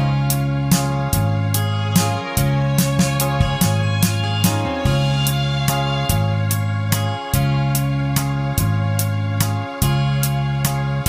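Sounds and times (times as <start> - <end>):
instrumental hymn chords: 0.0 - 11.0
steady ticking beat: 0.7 - 10.4.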